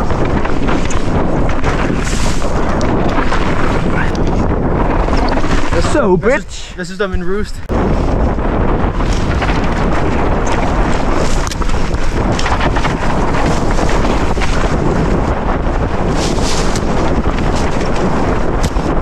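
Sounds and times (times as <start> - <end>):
bike rattling over bumps: 0.0 - 6.2, 7.7 - 19.0
tyres on dirt trail: 0.0 - 19.0
wind rushing over microphone: 0.0 - 19.0.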